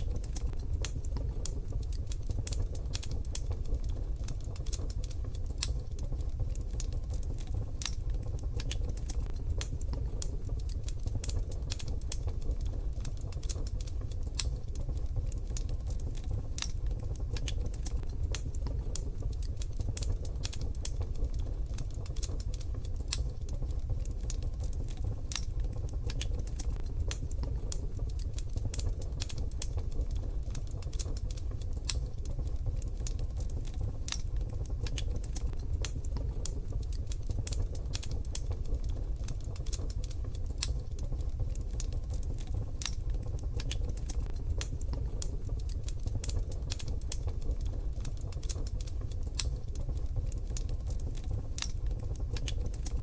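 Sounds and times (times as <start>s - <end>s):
wood stove fire crackling: 0.0s - 53.0s.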